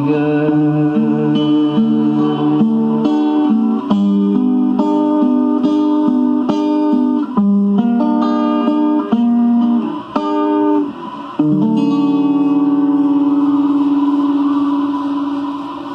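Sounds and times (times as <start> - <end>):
guitar chord ringing: 0.0 - 15.9
guitar picking single notes: 0.0 - 15.9.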